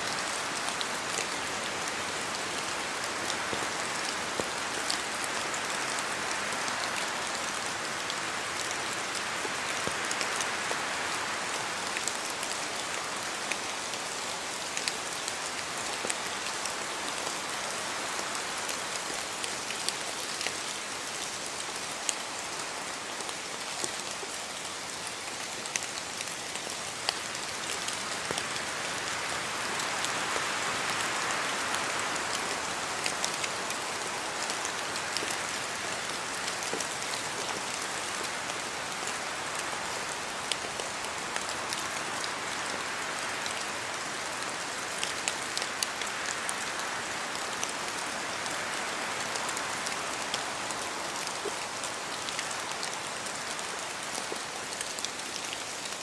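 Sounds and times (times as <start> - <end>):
rain drops ticking on leaves: 0.0 - 56.0
rain rushing in forest: 0.0 - 56.0.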